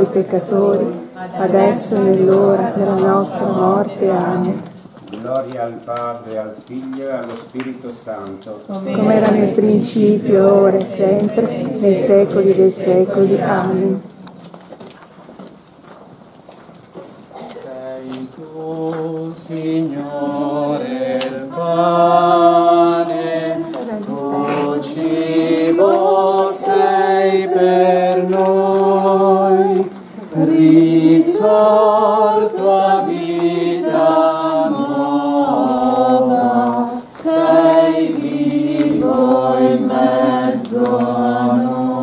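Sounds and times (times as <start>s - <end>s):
group singing a hymn: 0.0s - 5.0s, 8.7s - 14.3s, 17.6s - 42.0s.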